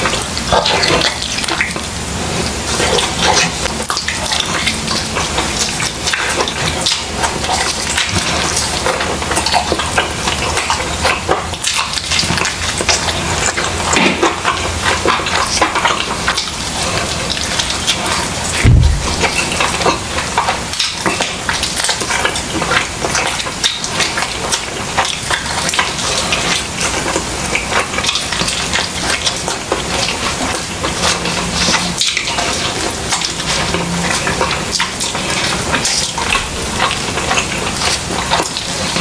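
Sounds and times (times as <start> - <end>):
wet chewing and lip-smacking: 0.0 - 39.0.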